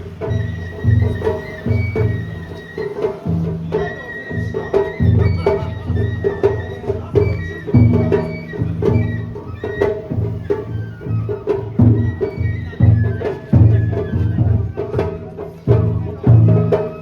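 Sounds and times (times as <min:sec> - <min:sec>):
drums beating steady rhythm: 0:00.0 - 0:17.0
high flute melody: 0:00.0 - 0:17.0.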